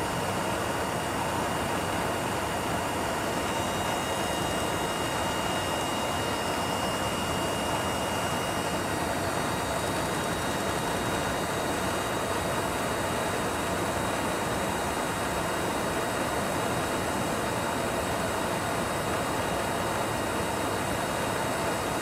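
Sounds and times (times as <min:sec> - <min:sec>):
aircraft cabin airflow and engines: 0:00.0 - 0:22.0
faint high whine: 0:00.0 - 0:22.0.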